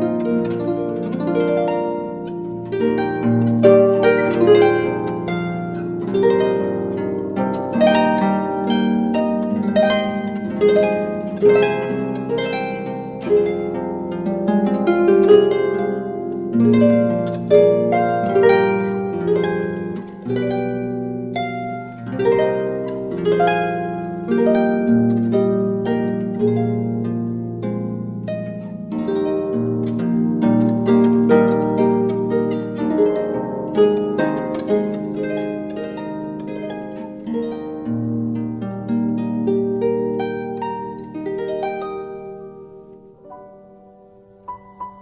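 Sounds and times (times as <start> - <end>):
harp music: 0.0 - 45.0.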